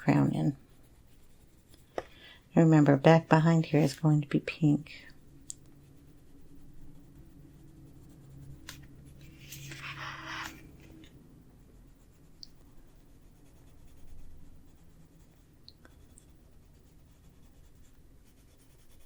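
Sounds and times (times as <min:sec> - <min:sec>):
pencil scratching on paper: 0:00.0 - 0:02.0, 0:02.6 - 0:19.0.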